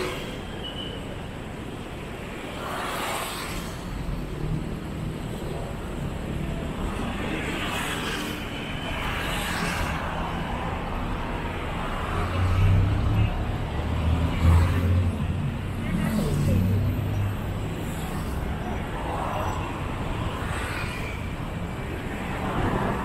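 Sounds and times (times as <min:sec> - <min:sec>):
vehicles passing close by: 0:00.0 - 0:23.0.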